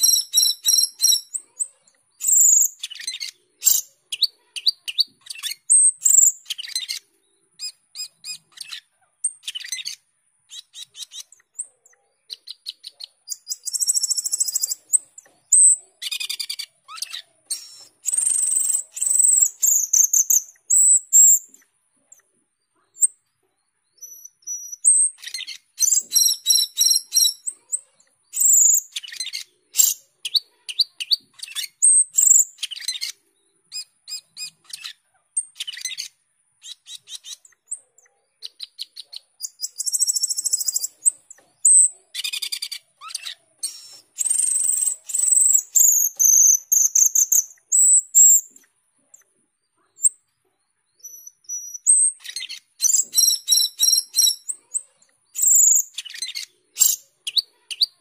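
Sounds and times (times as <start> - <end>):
starling singing: 0.0 - 22.2, 23.9 - 48.7, 51.0 - 58.0.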